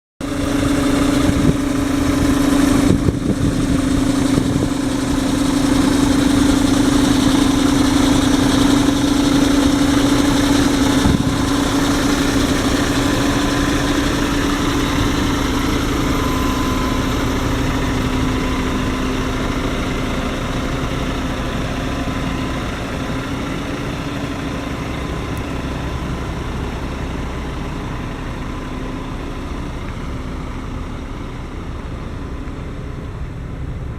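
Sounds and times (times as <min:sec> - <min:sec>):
truck diesel engine idling: 0:00.2 - 0:33.9.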